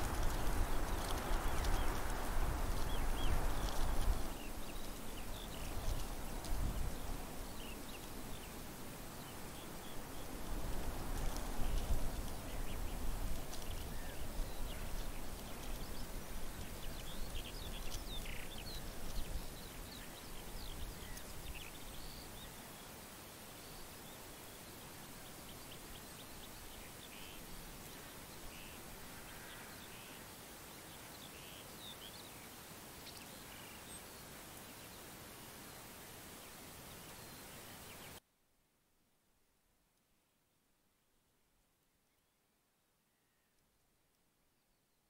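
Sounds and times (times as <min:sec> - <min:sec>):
small birds chirping: 0:00.0 - 0:38.2
steady faint hiss: 0:00.0 - 0:45.0.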